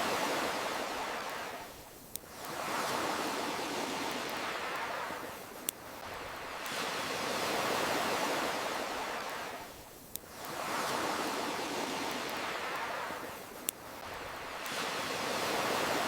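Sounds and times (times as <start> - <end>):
campfire crackle: 0.0 - 16.0
ocean waves surging: 0.0 - 16.0.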